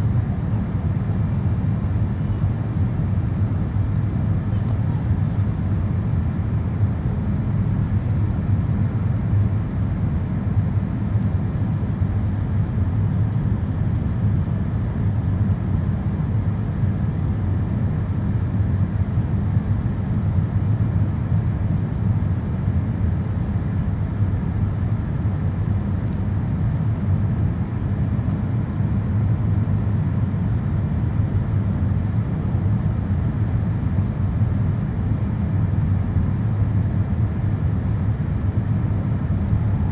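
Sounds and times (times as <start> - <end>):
airliner cabin rumble: 0.0 - 15.7, 23.7 - 39.9.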